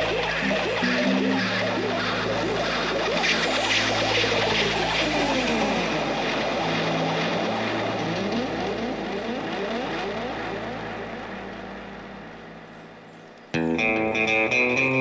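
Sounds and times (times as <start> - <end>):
low drone: 0.0 - 13.7
sweeping pitch glides: 0.0 - 14.4.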